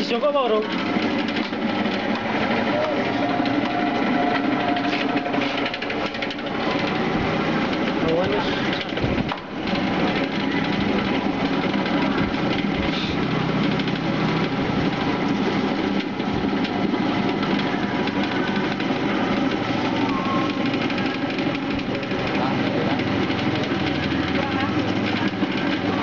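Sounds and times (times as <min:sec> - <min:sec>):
oil spinner motor running: 0:00.0 - 0:26.0.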